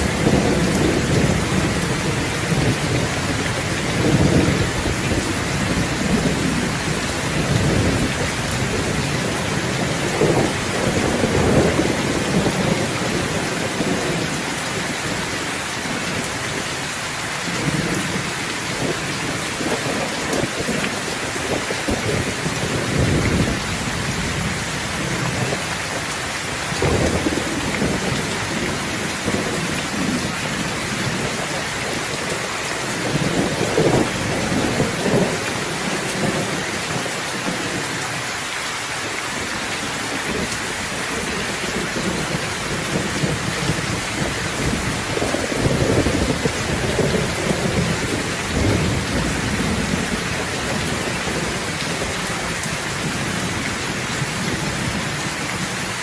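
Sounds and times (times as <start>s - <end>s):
thunder rolling: 0.0s - 16.4s, 17.4s - 37.9s, 40.2s - 55.6s
steady rain hissing: 0.0s - 56.0s.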